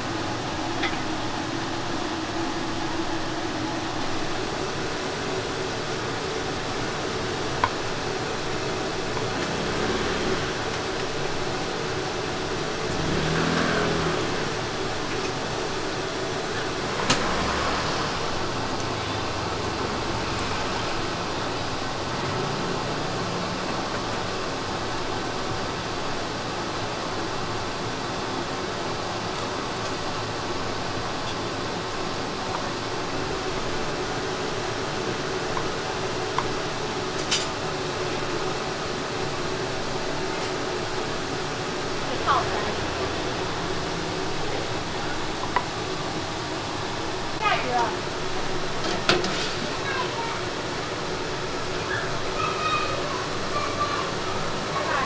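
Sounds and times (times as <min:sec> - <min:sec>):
steady background noise: 0:00.0 - 0:55.0
street ambience hum: 0:00.0 - 0:55.0.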